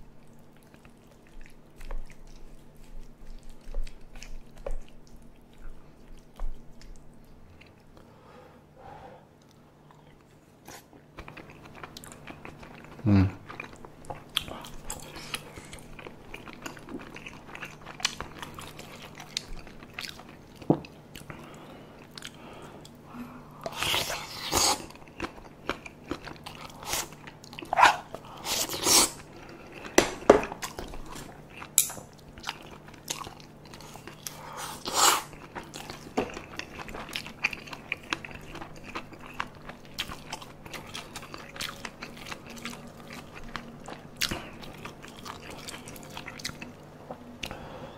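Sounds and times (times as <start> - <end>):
chewing and biting soft food: 0.0 - 8.1, 9.4 - 47.6.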